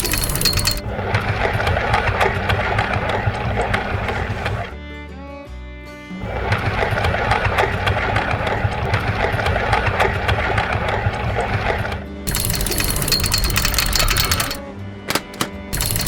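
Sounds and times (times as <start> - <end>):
fast mechanical rattle: 0.0 - 4.8, 6.2 - 16.0.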